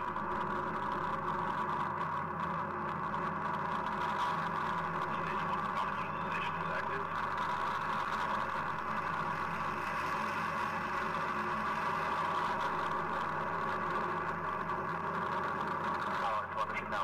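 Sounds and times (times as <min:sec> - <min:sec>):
low hum: 0:00.0 - 0:17.0
rocket engines roaring: 0:00.0 - 0:17.0.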